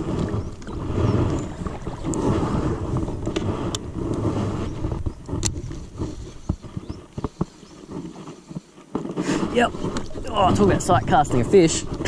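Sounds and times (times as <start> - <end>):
water noise: 0.0 - 12.0
wind rumble on microphone: 0.0 - 12.0.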